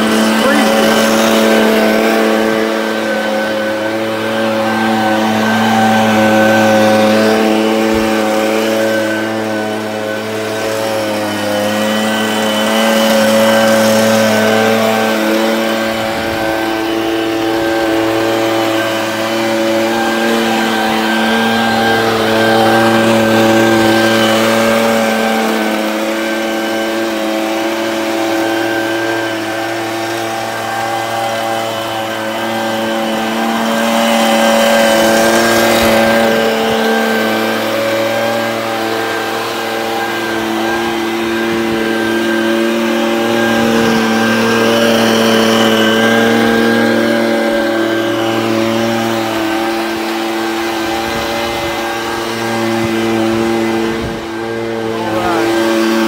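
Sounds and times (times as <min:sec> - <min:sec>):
leaf blower droning: 0:00.0 - 0:56.0.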